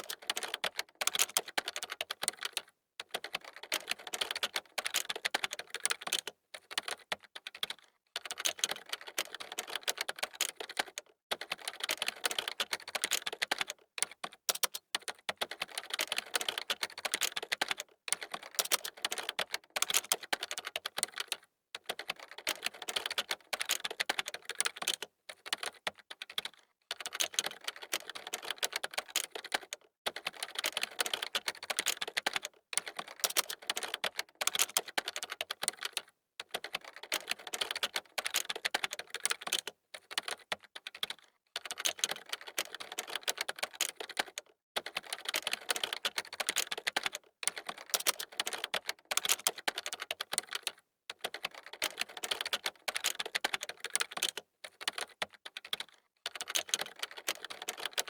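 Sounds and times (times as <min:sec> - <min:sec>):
fast typing on keyboard: 0:00.0 - 0:58.0.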